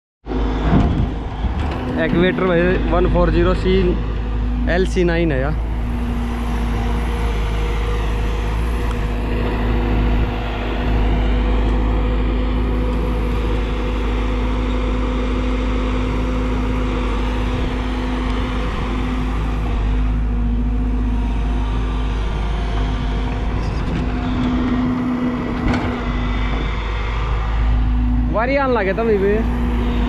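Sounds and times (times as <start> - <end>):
excavator diesel engine droning: 0.3 - 30.0.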